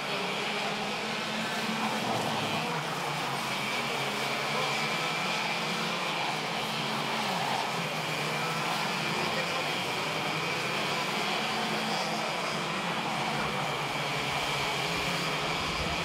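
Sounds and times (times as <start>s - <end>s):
racing kart engines: 0.0s - 16.0s.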